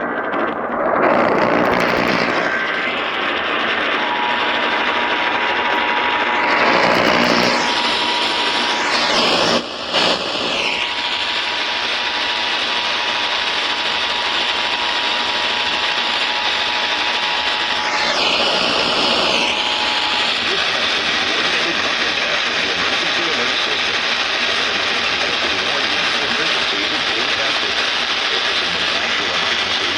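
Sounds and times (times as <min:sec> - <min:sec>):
radio static hiss: 0:00.0 - 0:29.9.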